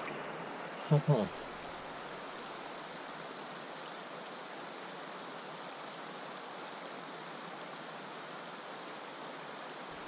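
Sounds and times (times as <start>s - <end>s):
flowing creek water: 0.0s - 10.0s.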